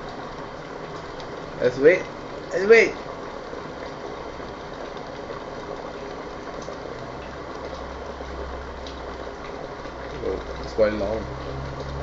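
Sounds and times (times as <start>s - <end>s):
kettle boiling: 0.0s - 12.0s.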